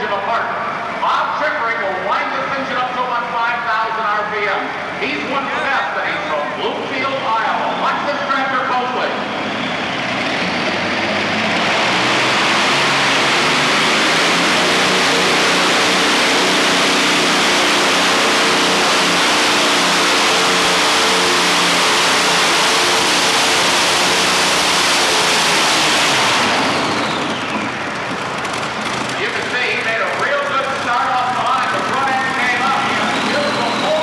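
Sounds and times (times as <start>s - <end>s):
pulling tractor engine roaring: 0.0s - 34.0s.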